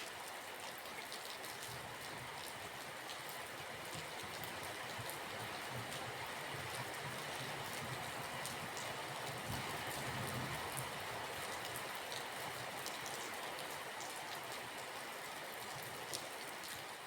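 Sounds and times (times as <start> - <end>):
steady rain with drops ticking: 0.0 - 17.0.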